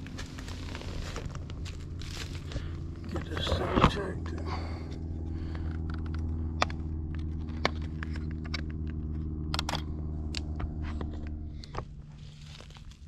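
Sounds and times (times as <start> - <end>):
engine running: 0.0 - 13.0
faint steady hum: 0.0 - 13.0.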